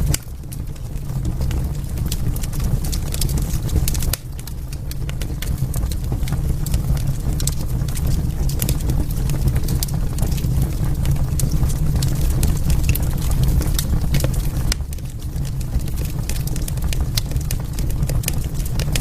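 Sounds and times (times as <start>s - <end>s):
fire crackling and popping: 0.0s - 19.0s
low rumble of burning: 0.0s - 19.0s.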